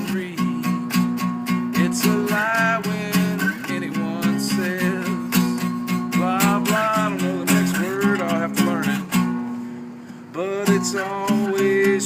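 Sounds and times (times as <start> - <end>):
man singing: 0.0 - 9.2, 10.3 - 12.0
acoustic guitar strumming: 0.0 - 12.0.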